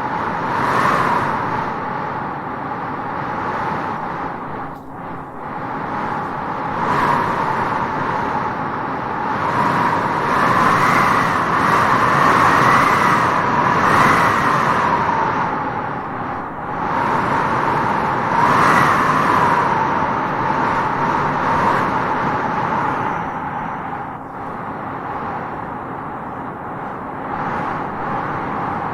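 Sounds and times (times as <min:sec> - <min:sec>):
wind gusting: 0:00.0 - 0:28.9.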